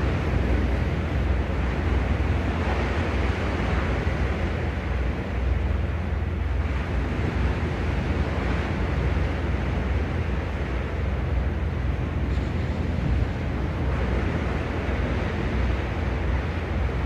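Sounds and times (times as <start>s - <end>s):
sea waves washing ashore: 0.0s - 17.0s
wind rumbling on microphone: 0.0s - 17.0s.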